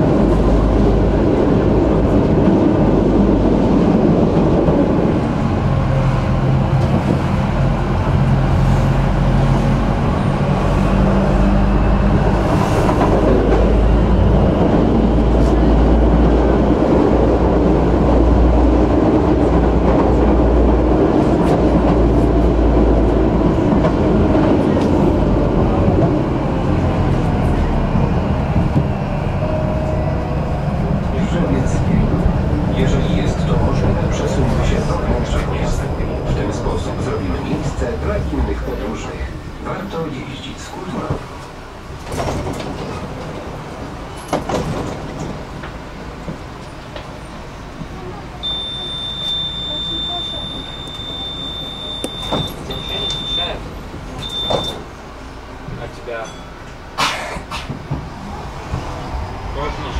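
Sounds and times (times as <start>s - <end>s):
steel wheels rumbling on track: 0.0s - 59.9s.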